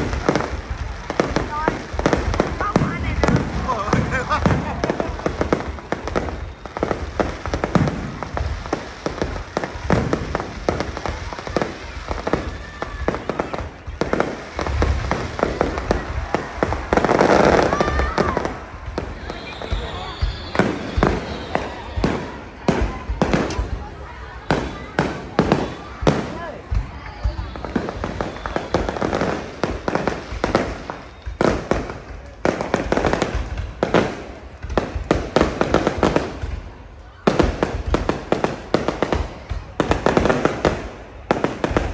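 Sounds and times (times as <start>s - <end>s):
deep rumble of bursting shells: 0.0s - 12.4s, 14.0s - 36.6s
fireworks cracking and popping: 0.0s - 41.9s.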